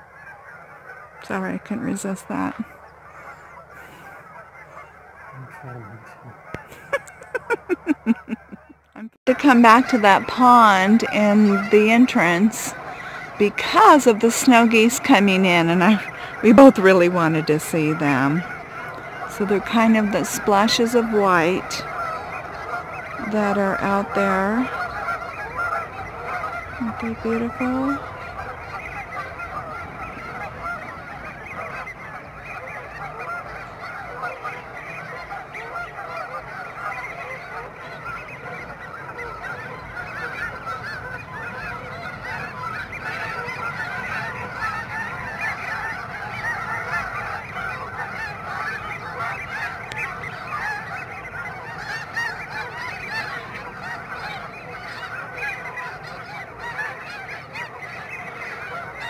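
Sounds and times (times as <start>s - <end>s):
flock of geese honking: 0.0s - 59.0s.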